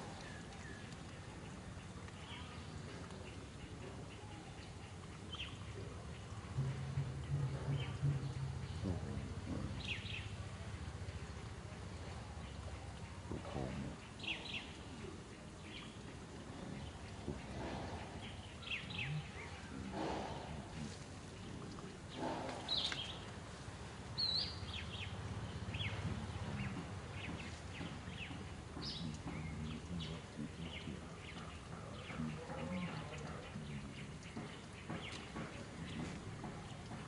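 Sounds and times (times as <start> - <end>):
low animal calls: 0.0 - 10.9, 11.8 - 23.4, 25.8 - 37.0.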